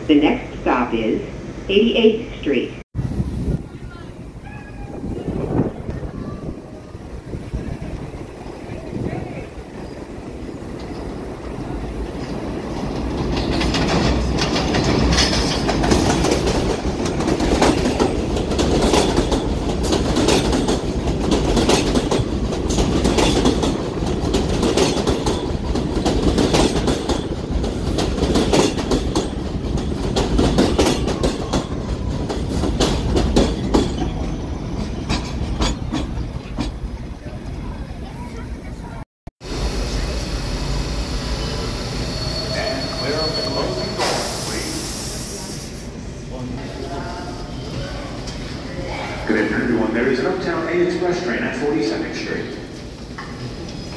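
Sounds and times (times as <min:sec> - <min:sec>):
subway train wheels clacking: 0:03.5 - 0:53.9.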